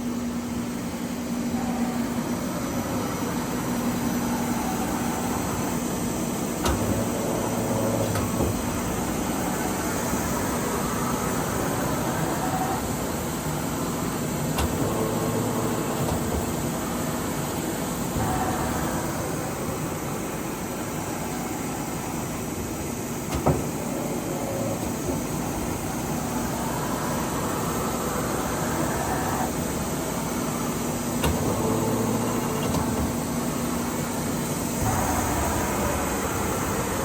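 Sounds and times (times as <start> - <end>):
lathe humming: 1.4 - 37.0.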